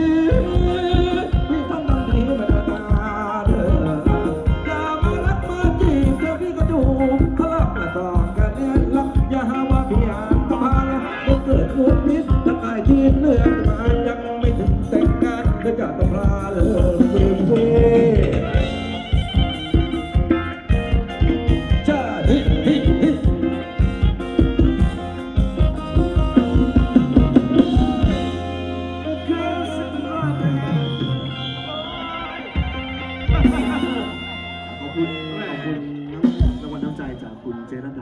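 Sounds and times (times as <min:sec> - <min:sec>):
steady drum beat: 0:00.0 - 0:31.2, 0:32.5 - 0:34.8, 0:36.1 - 0:37.2
person singing: 0:00.0 - 0:36.9
band instruments playing: 0:00.0 - 0:38.0.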